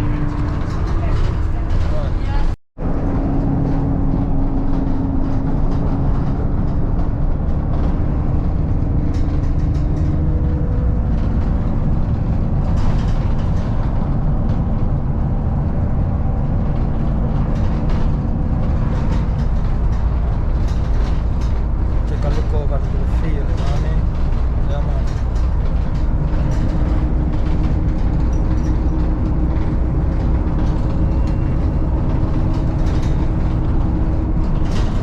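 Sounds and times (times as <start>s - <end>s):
bus engine rumble: 0.0s - 35.0s.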